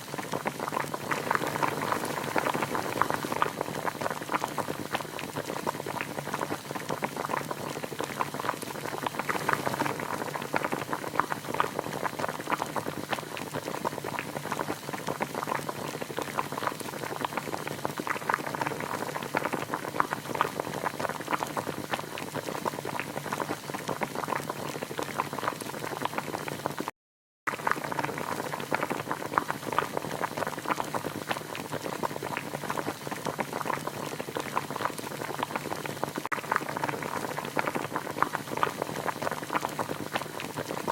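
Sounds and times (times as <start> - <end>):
pot of water boiling: 0.0 - 26.9, 27.5 - 40.9.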